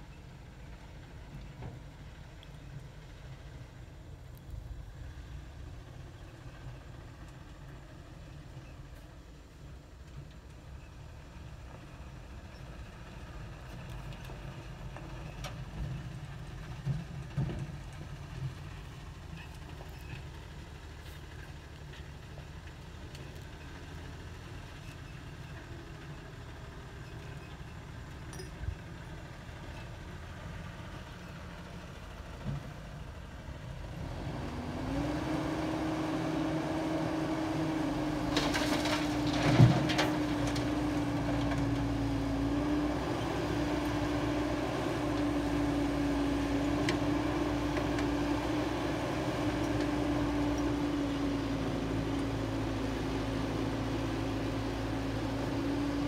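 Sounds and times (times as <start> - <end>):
excavator and truck diesel engines: 0.0 - 56.0.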